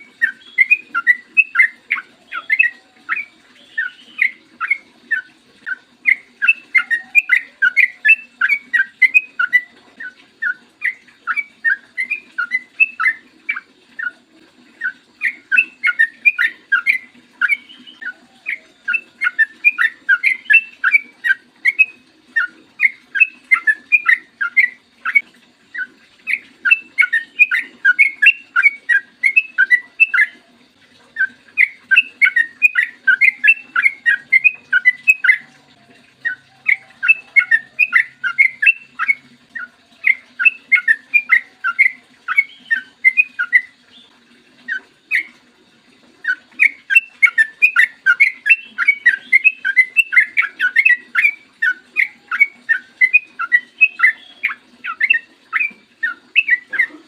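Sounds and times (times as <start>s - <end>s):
bulbul singing bubbling whistles: 0.0s - 57.0s.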